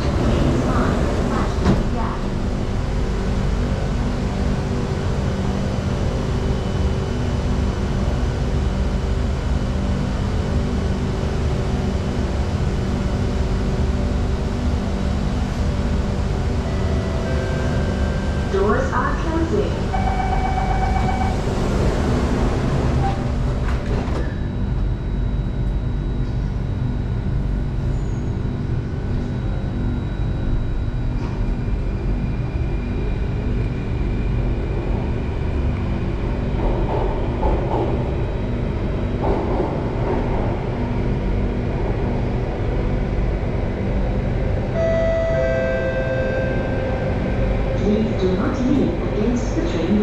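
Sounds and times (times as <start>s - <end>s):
train rumble: 0.0s - 50.0s.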